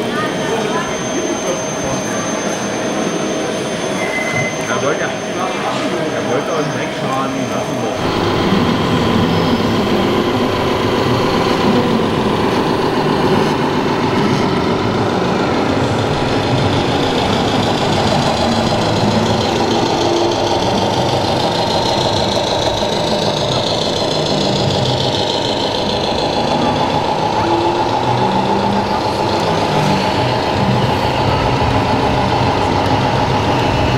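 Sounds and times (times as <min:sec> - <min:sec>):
simulated diesel truck engine: 0:00.0 - 0:33.9.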